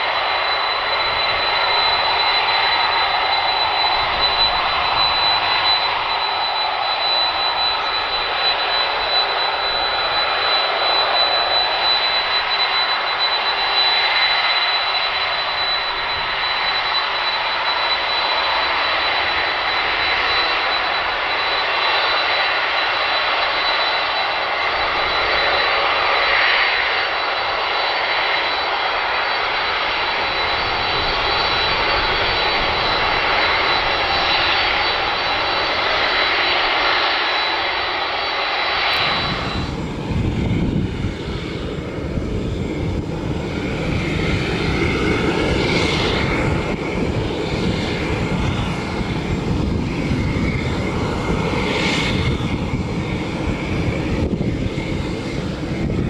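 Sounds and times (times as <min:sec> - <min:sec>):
high engine whine: 0:00.0 - 0:56.0
jet engines running: 0:00.0 - 0:56.0.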